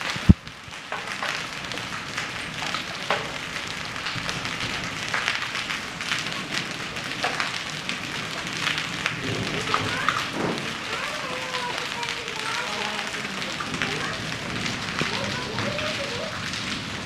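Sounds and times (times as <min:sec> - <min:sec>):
hail and rain falling hard: 0:00.0 - 0:17.0.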